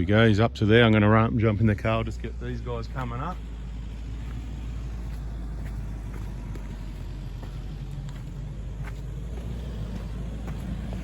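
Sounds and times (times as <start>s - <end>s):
engine running low rumble: 0.0s - 11.0s.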